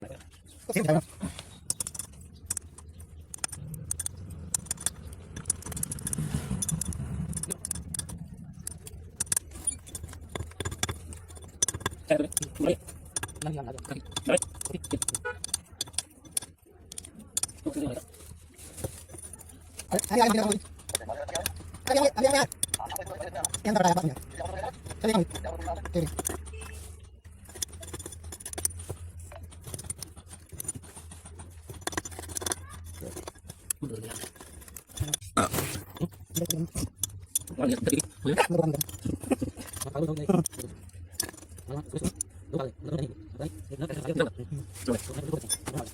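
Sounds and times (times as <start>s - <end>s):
tools and pipe fittings clinking: 0.0s - 45.9s
clicks and scrapes of hand work: 0.1s - 42.5s, 43.2s - 45.9s.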